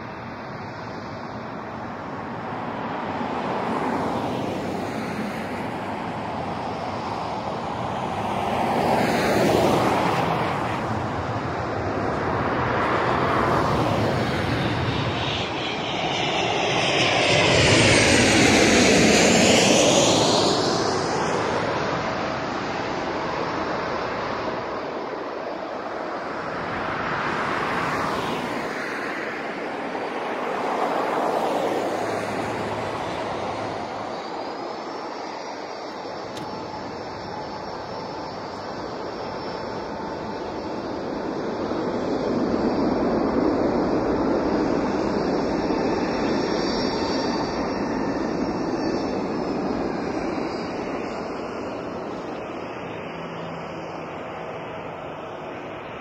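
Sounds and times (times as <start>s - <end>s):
jet airliner engine roar: 0.0s - 56.0s
vehicles passing on road: 0.0s - 56.0s.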